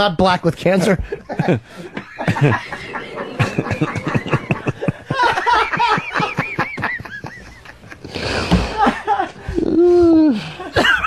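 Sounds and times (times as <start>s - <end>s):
men laughing: 0.8s - 11.0s.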